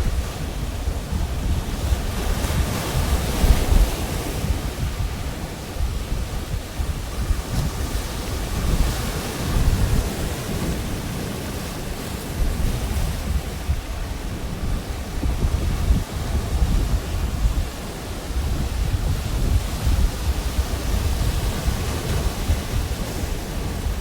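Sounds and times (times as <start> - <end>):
surf breaking on beach: 0.0 - 24.0
wind buffeting microphone: 0.0 - 24.0.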